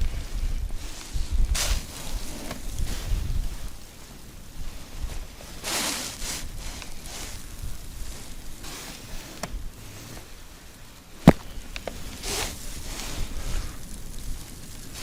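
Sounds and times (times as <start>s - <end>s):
wind buffeting microphone: 0.0s - 10.0s, 11.2s - 15.0s.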